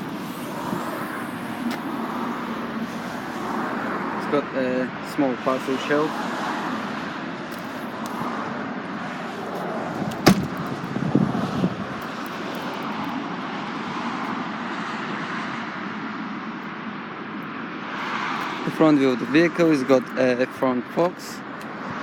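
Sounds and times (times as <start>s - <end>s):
background traffic noise: 0.0s - 22.0s.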